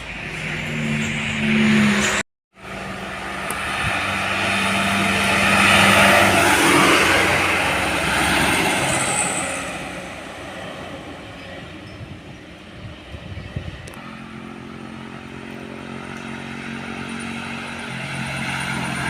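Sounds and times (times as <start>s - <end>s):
heavy truck driving past: 0.0s - 11.8s, 12.9s - 19.0s.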